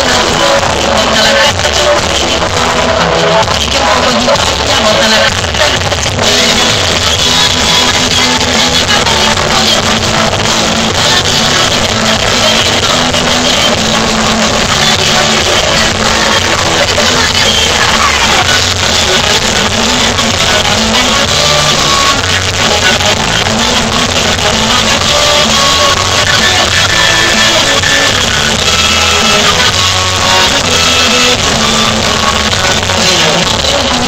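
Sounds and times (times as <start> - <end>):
live band playing amplified music: 0.0 - 34.0.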